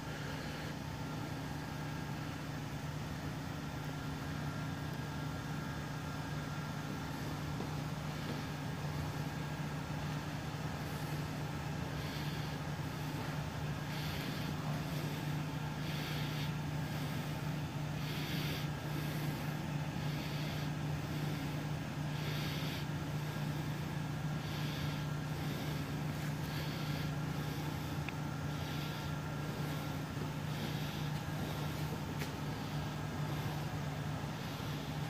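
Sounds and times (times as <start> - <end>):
ventilation system hum: 0.0 - 35.0.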